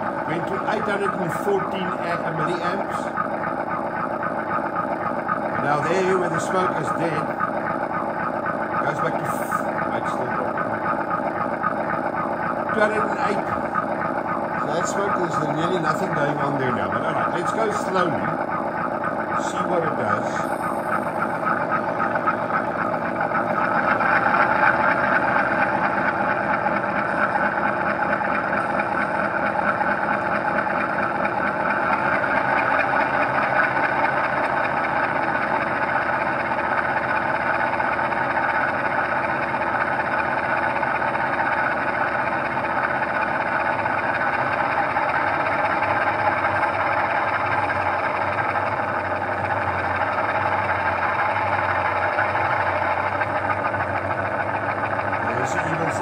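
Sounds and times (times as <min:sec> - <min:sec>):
low hum: 0:00.0 - 0:56.0
model locomotive running: 0:00.0 - 0:56.0.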